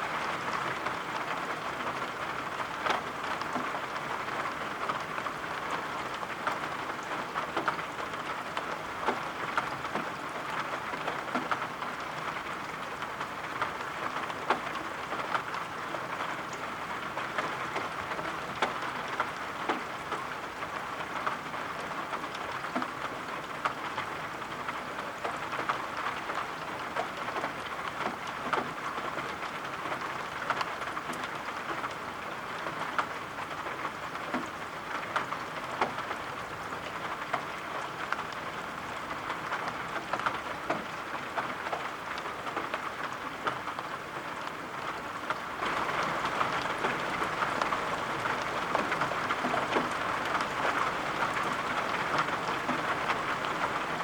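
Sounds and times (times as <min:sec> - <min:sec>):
steady rain: 0:00.0 - 0:54.0
raindrops ticking: 0:00.2 - 0:54.0.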